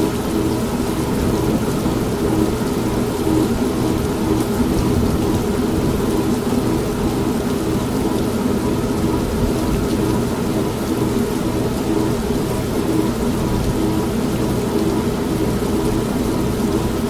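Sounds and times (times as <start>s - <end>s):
steady rain: 0.0s - 17.0s
washing machine running: 0.0s - 17.0s.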